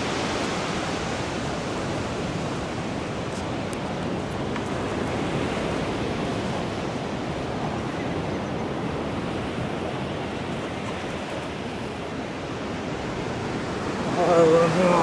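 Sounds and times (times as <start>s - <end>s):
surf washing onto sandy beach: 0.0s - 15.0s.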